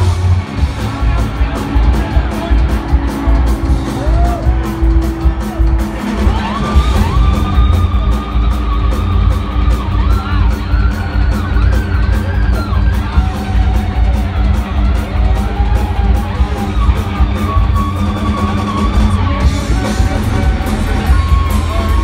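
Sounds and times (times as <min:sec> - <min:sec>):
drums and cymbal beat: 0:00.0 - 0:22.0
electric guitars: 0:00.0 - 0:22.0.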